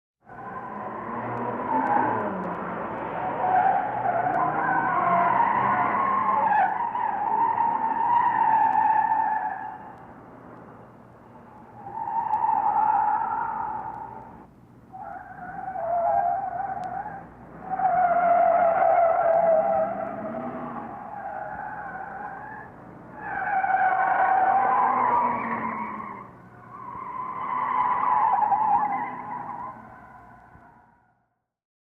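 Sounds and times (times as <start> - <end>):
car tyres squealing: 0.2 - 10.2, 11.3 - 31.1.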